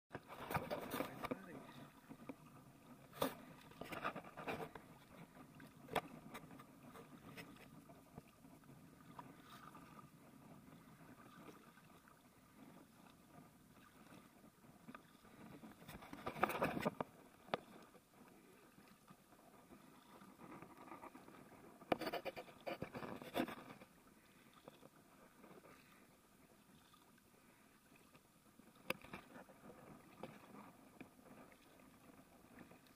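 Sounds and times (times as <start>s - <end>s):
paddle strokes: 0.1s - 32.9s
water lapping against kayak: 0.1s - 32.9s.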